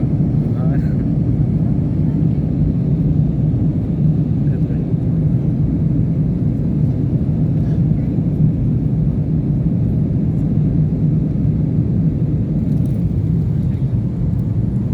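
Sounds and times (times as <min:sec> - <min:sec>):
airplane low rumble: 0:00.0 - 0:14.9.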